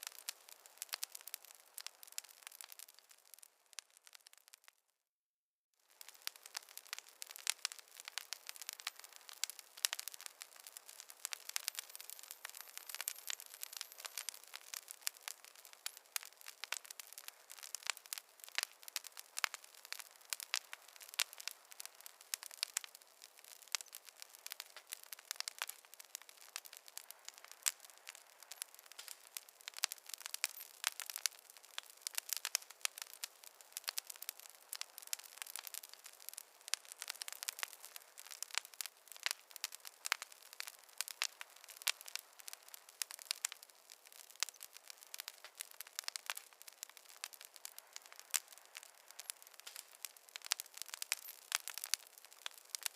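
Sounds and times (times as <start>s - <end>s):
fire crackling: 0.0s - 4.8s, 5.8s - 52.9s.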